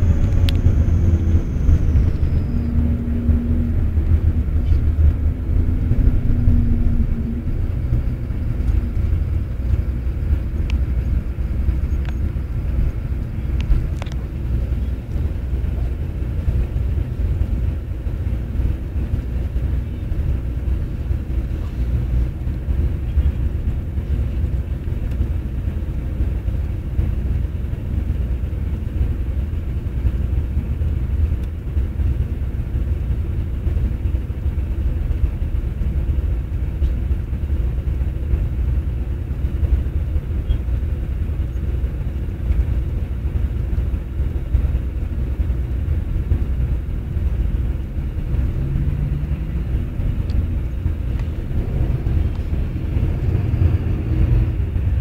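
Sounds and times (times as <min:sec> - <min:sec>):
coach engine and tyres rumbling: 0:00.0 - 0:55.0
steady low tone: 0:00.0 - 0:55.0.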